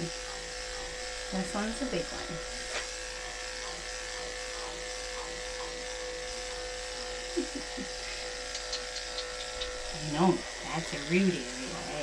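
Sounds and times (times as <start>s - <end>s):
electric pet clippers buzzing: 0.0s - 12.0s.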